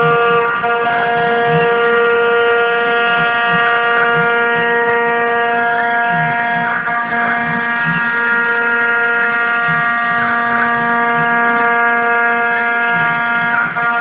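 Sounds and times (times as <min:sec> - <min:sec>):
end mill cutting metal: 0:00.0 - 0:14.0
router spindle whining: 0:00.0 - 0:14.0.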